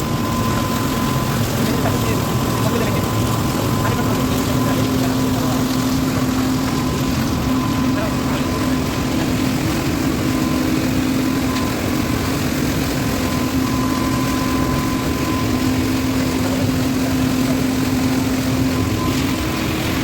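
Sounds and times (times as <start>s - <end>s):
machinery rumble and hum: 0.0s - 20.0s.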